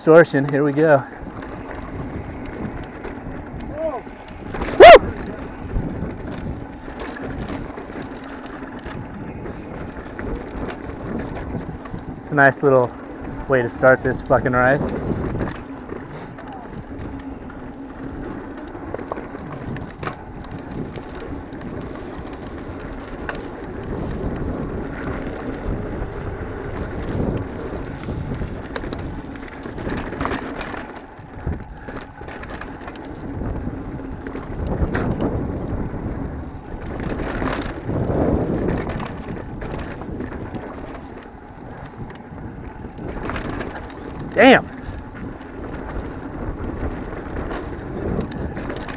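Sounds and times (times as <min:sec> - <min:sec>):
bike rattling over bumps: 0:00.0 - 0:48.9
bike tyres rolling over dirt: 0:00.0 - 0:48.9
wind rushing on microphone: 0:00.0 - 0:48.9.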